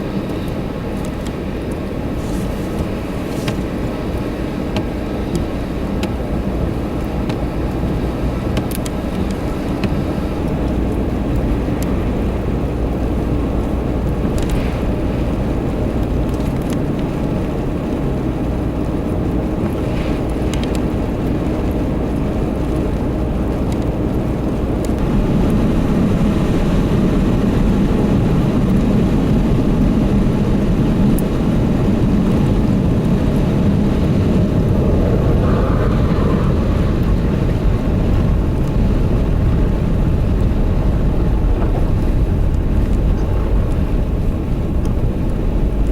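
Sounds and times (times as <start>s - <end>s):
road and wind noise: 0.0s - 45.9s
vehicle engine rumble: 0.0s - 45.9s.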